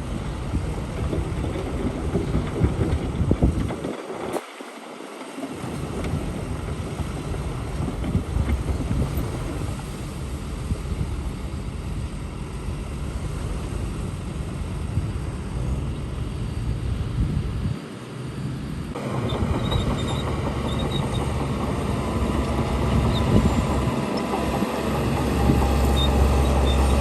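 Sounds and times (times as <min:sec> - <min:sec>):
diesel machinery rumbling: 0:00.0 - 0:04.4, 0:05.4 - 0:27.0
wind noise on microphone: 0:00.0 - 0:04.6, 0:05.5 - 0:11.4, 0:14.5 - 0:17.8, 0:18.9 - 0:27.0.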